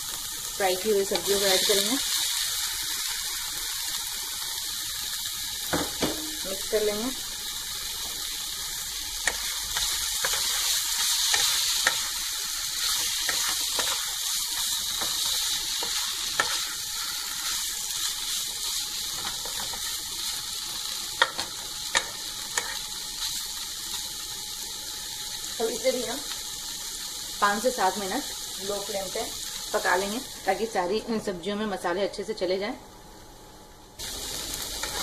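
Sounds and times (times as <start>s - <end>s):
vegetables sizzling in a pan: 0.0s - 35.0s.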